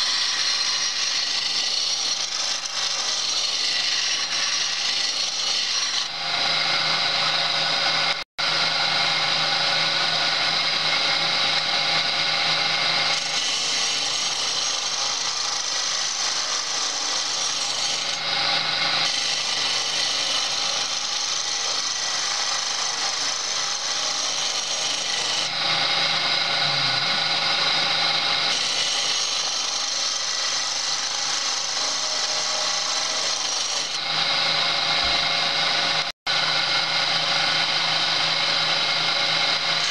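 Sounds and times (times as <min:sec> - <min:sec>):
chisel cutting spinning wood: 0:00.0 - 0:39.9
wood lathe humming: 0:00.0 - 0:39.9.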